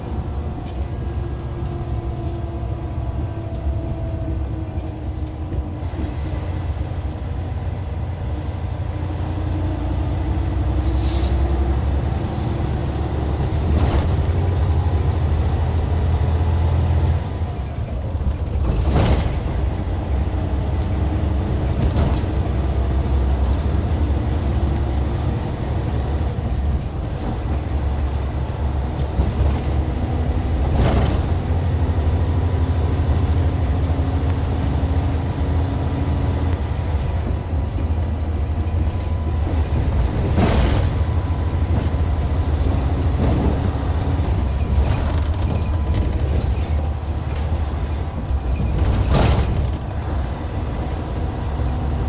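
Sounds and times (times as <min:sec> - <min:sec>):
bus diesel engine rumbling: 0:00.0 - 0:52.0
road noise: 0:00.0 - 0:52.0.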